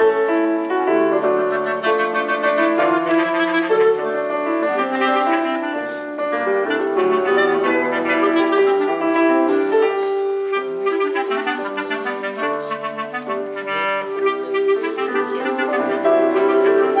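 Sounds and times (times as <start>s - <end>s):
clarinet and basset horn: 0.0s - 17.0s
piano notes: 0.0s - 17.0s.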